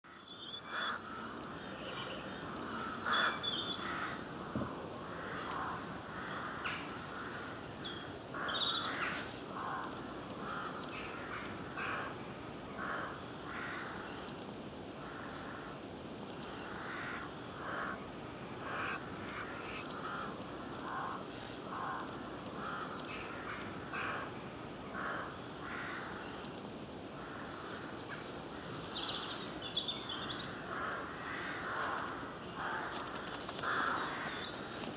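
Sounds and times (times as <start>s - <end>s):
birds repeated calls: 0.0s - 34.9s
small birds chirping: 0.0s - 34.9s.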